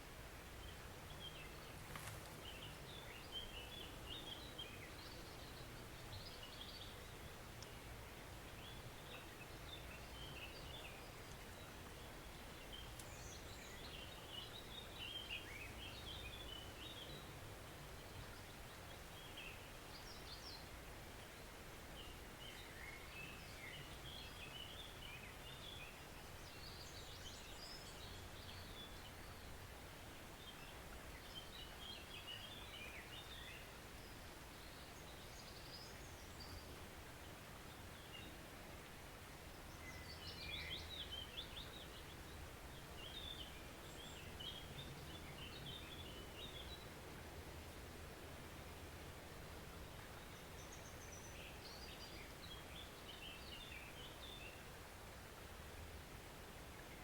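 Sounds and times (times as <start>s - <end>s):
songbirds chirping: 0.0s - 57.0s
stream running: 0.0s - 57.0s.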